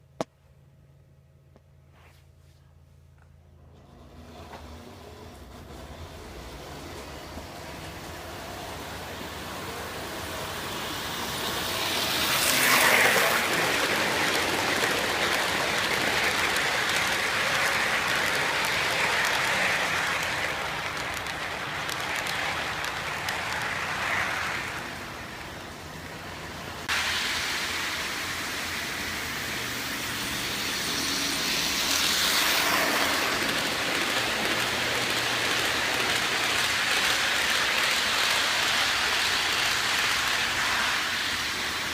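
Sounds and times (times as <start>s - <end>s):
model train whirring rumble: 3.6s - 41.9s.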